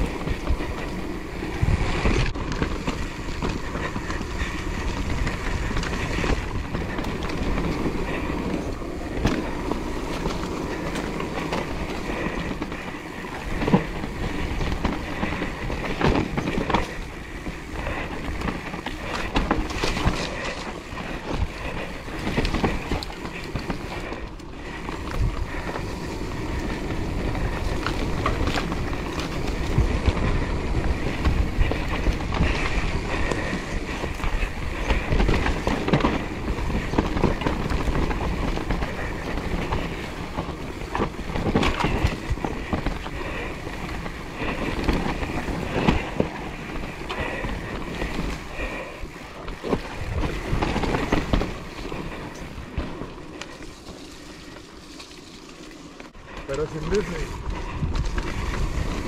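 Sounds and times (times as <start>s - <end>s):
bike chain and frame rattling: 0.0s - 59.0s
bike tyres rolling over dirt: 0.0s - 59.0s.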